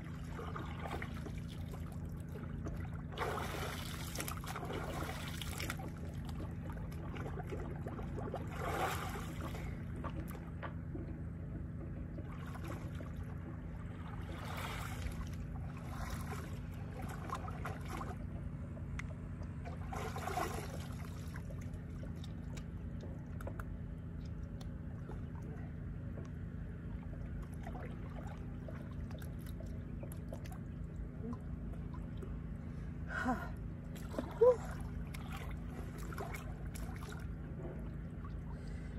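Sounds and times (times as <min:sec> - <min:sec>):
seawater sloshing and splashing: 0:00.0 - 0:33.0, 0:33.9 - 0:38.9
steady low rumble: 0:00.0 - 0:38.9.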